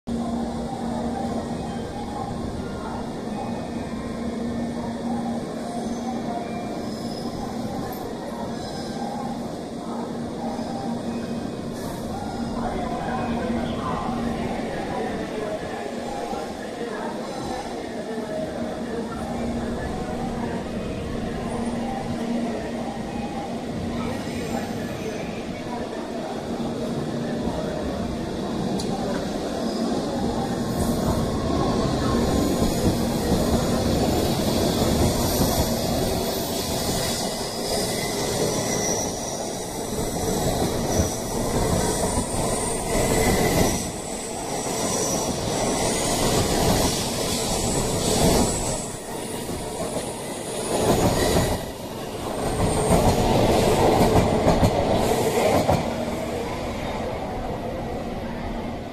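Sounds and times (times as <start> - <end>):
high-pitched train squeals: 0.6 - 27.7, 28.3 - 57.2.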